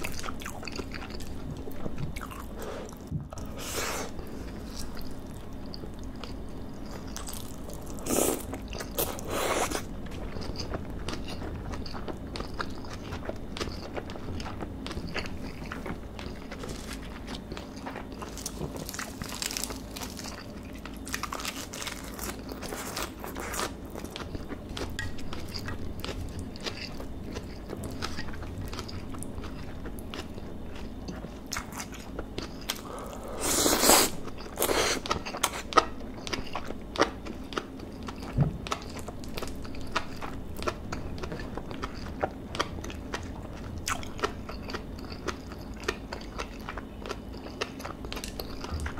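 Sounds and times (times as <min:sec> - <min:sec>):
wet chewing sounds: 0:00.0 - 0:48.9.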